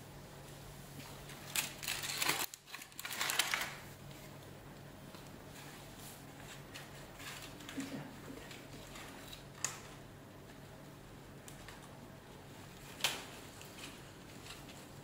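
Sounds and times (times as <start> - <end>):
steady low hum: 0.0 - 3.0, 3.7 - 15.0.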